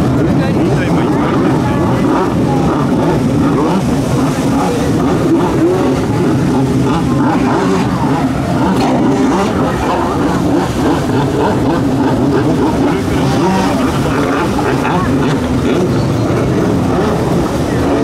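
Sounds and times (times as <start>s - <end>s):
jet ski engines revving: 0.0s - 18.0s.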